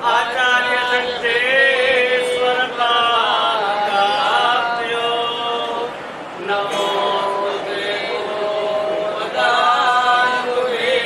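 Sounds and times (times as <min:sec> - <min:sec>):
man chanting a hymn: 0:00.0 - 0:11.0.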